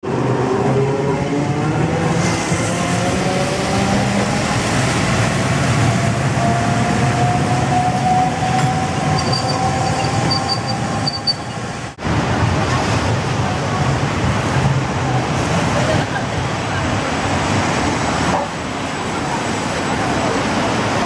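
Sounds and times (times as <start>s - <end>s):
streetcar wheels rumbling on rail: 0.0s - 21.0s.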